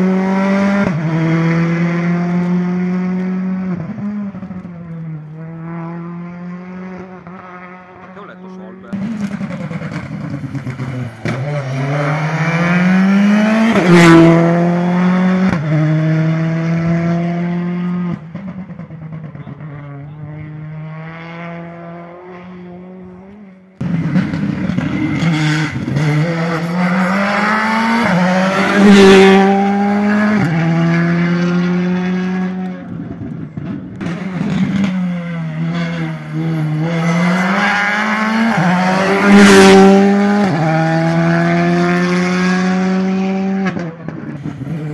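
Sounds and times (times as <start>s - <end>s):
rally car engines revving: 0.0s - 44.9s.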